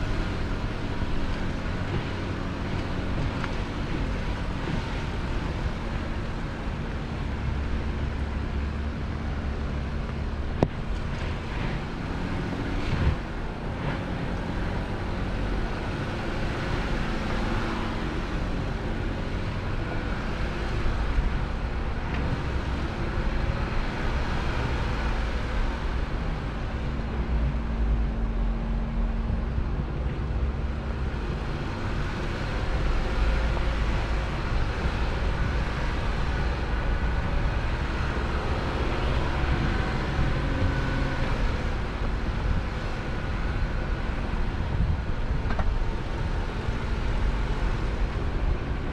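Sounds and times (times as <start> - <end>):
vehicle engine hum: 0.0 - 48.9.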